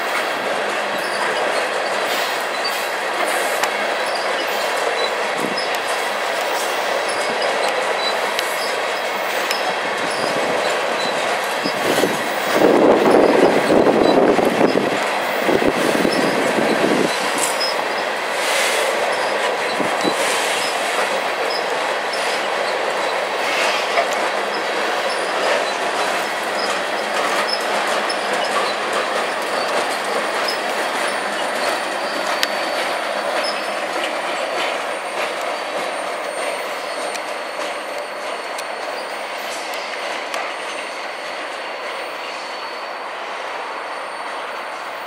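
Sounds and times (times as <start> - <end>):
freight train wheels rolling: 0.0 - 45.0
thin high wheel squeal: 0.0 - 45.0.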